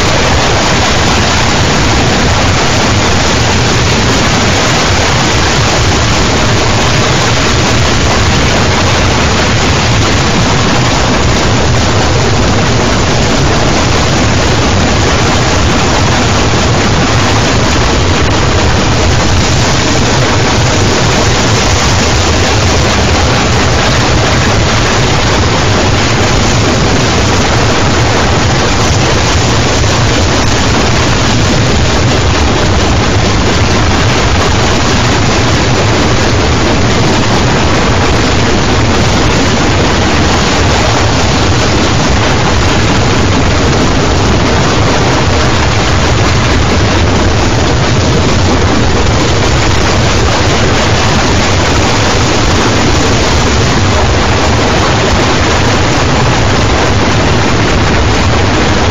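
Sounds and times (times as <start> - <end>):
harsh electronic noise: 0.0 - 58.9.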